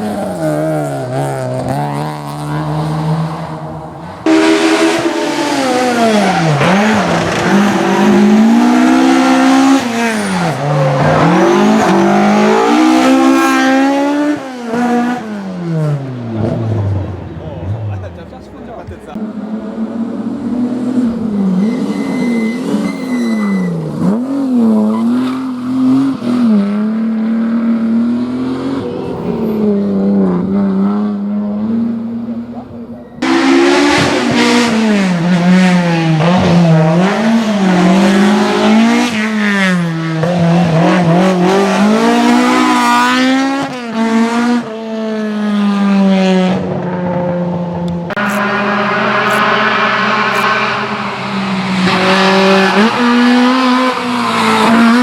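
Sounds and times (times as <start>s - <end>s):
loud car passing close: 0.0s - 55.0s
rally car engines revving: 0.0s - 55.0s.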